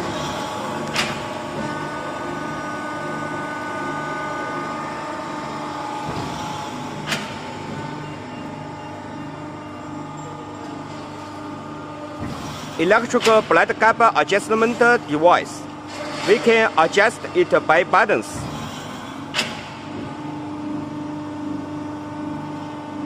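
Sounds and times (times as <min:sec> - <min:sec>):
motor and pump humming: 0:00.0 - 0:23.0.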